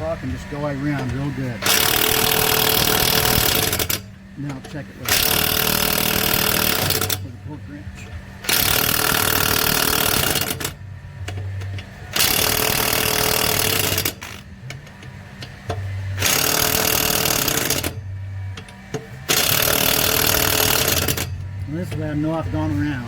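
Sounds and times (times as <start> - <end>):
impact wrench hammering lug nuts: 1.0 - 7.3, 8.4 - 22.5.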